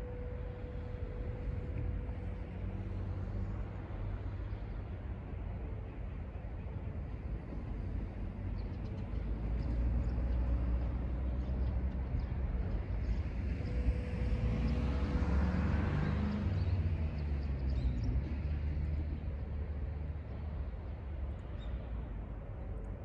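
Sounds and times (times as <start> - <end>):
faint steady tone: 0.0 - 23.0
freight train rumbling on bridge: 0.0 - 23.0.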